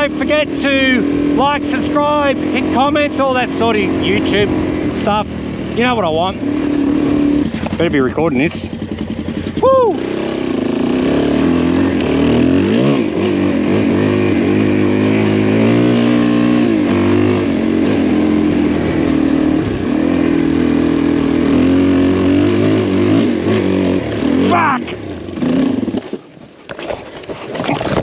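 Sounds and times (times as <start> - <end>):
motorcycle engine revving: 0.0 - 28.0
wind and road noise: 0.0 - 28.0.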